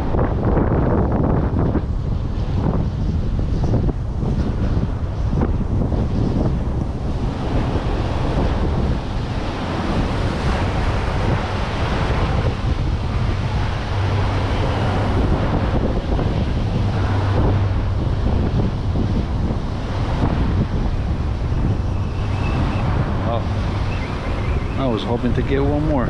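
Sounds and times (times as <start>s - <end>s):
waves washing: 0.0s - 26.0s
wind buffeting microphone: 0.0s - 26.0s.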